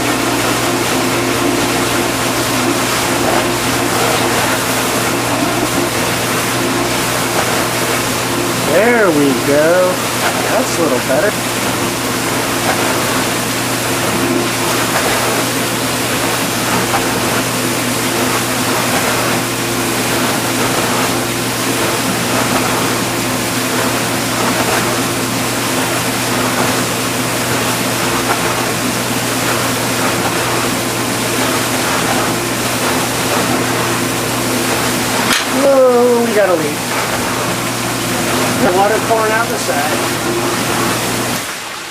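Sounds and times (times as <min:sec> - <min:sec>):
dishwasher pump motor hum: 0:00.0 - 0:41.9
water spraying inside dishwasher: 0:00.0 - 0:41.9.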